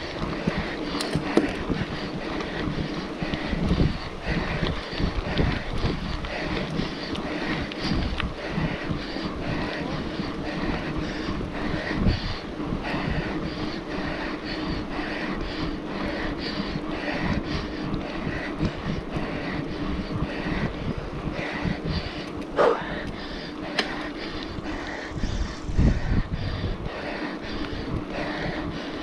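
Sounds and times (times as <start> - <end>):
bike tyres rumbling on asphalt: 0.0 - 29.0
wind buffeting microphone: 0.0 - 29.0.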